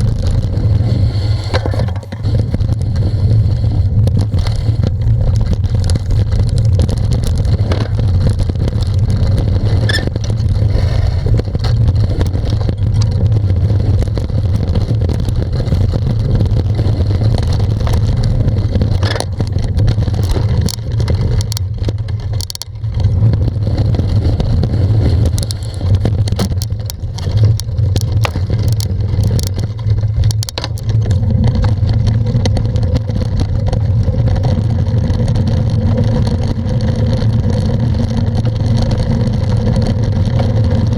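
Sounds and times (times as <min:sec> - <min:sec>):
bicycle clicks and rattles: 0:00.0 - 0:40.9
wind buffeting microphone: 0:00.0 - 0:40.9.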